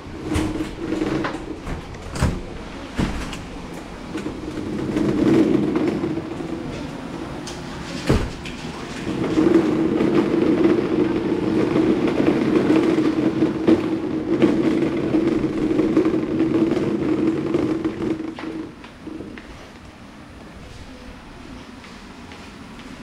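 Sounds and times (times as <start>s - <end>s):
cart wheels rumbling on floor: 0.0s - 23.0s.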